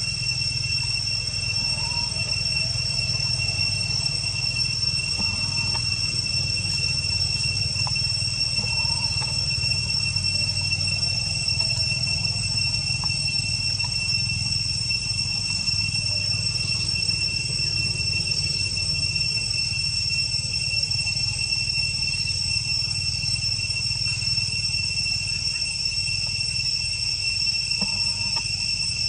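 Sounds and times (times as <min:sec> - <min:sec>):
constant low rumble: 0:00.0 - 0:29.0
insects droning: 0:00.0 - 0:29.0.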